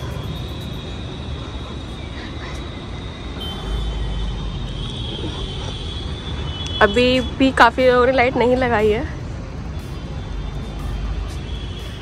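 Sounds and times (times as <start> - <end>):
distant traffic noise: 0.0 - 12.0.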